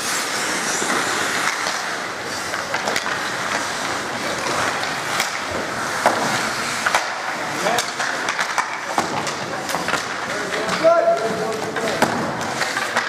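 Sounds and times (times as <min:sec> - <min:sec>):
hockey sticks clacking: 0:00.0 - 0:13.0
skate blades scraping ice: 0:00.0 - 0:13.0.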